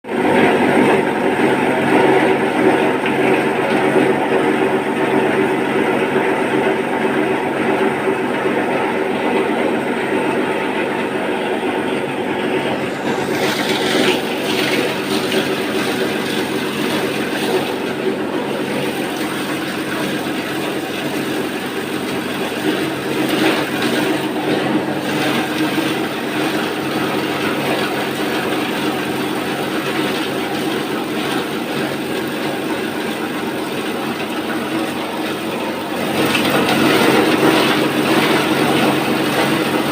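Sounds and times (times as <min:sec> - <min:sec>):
plastic grinder running: 0:00.0 - 0:39.9.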